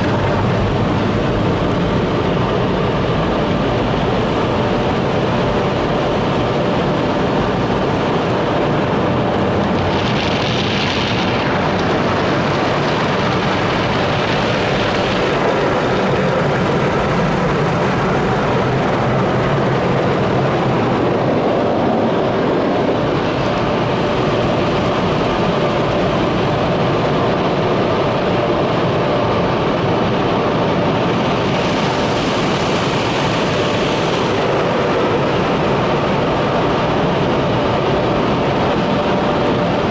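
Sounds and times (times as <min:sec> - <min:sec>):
car wash machinery roar: 0:00.0 - 0:39.9.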